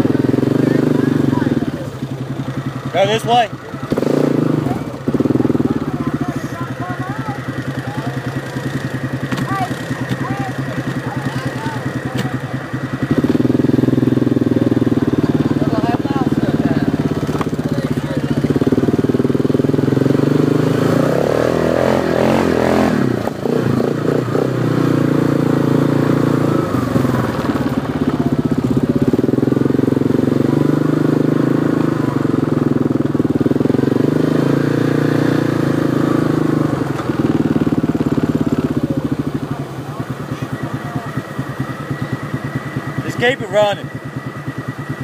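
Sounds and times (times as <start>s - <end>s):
vehicle engine revving: 0.0s - 45.0s.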